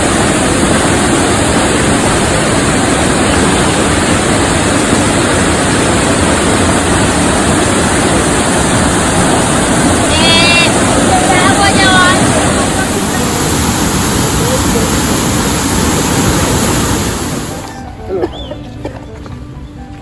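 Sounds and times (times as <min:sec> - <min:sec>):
water rushing in a stream: 0:00.0 - 0:18.5.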